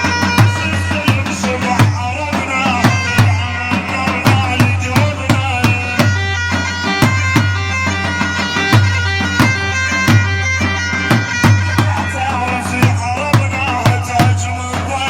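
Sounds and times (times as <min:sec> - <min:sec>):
reedy bagpipe-like lead: 0:00.0 - 0:15.0
steady drum beat: 0:00.0 - 0:15.0.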